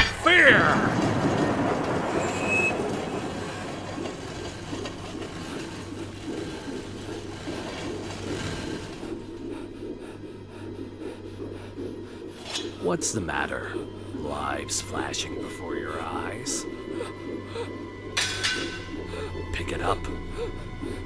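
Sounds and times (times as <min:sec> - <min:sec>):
low rumbling drone: 0:00.6 - 0:21.0.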